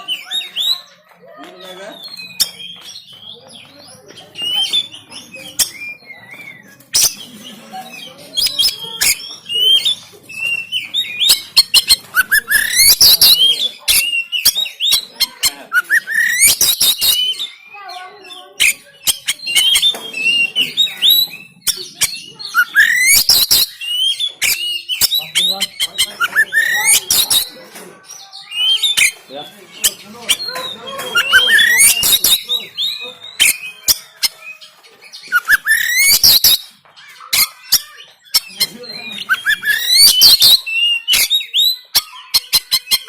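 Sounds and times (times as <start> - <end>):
bird harsh rasping calls: 1.9 - 43.0
songbird singing chirps and whistles: 1.9 - 43.0.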